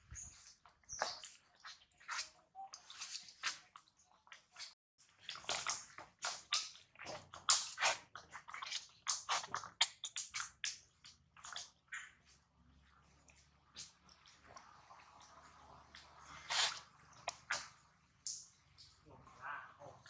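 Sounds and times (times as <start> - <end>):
monkeys chewing and smacking: 0.2 - 20.0.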